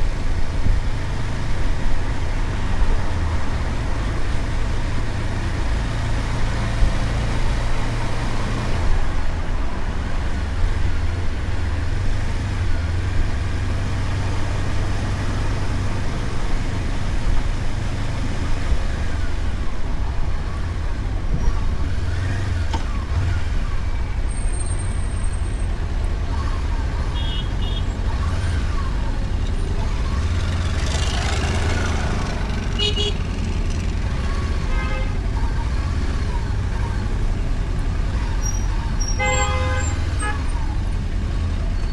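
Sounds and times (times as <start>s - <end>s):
motorcycle engine and road rumble: 0.0s - 41.9s
passing traffic: 0.0s - 41.9s.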